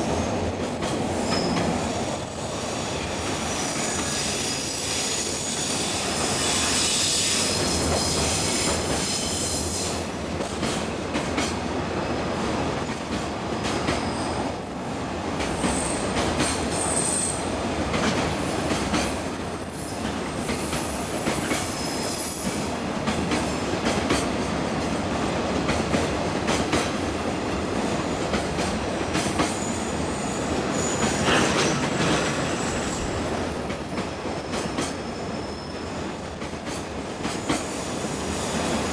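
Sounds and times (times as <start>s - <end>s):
rail clicks: 0.0s - 6.2s, 7.5s - 14.1s, 17.5s - 21.7s, 22.8s - 38.9s
train wheels rumbling on track: 0.0s - 38.9s.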